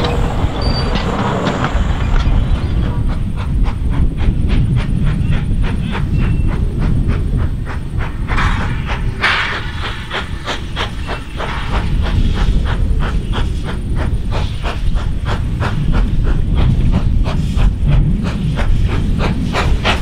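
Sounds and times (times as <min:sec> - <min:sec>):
low rumble: 0:00.0 - 0:20.0
steam hiss bursts: 0:00.0 - 0:20.0
steam locomotive exhaust beats: 0:00.0 - 0:20.0.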